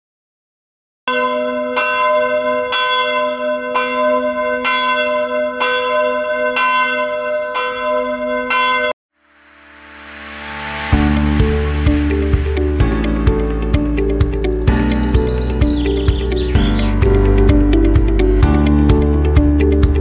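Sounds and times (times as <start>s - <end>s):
church bell ringing: 1.1s - 20.0s.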